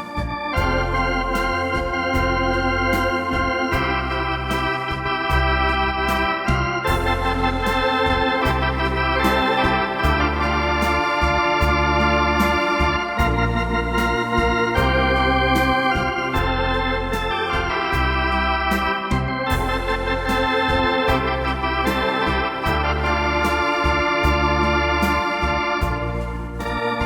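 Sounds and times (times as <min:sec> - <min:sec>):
drum machine rhythm ticking: 0:00.0 - 0:27.0
electronic organ ballad: 0:00.0 - 0:27.0.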